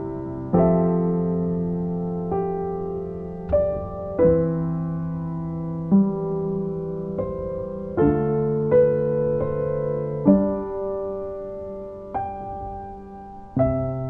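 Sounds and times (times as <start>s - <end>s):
slow gentle solo piano: 0.0s - 14.0s.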